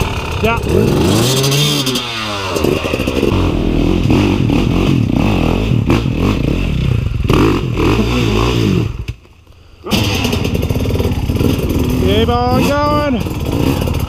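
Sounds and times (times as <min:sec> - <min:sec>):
dirt bike engine revving: 0:00.0 - 0:09.1, 0:09.8 - 0:14.0.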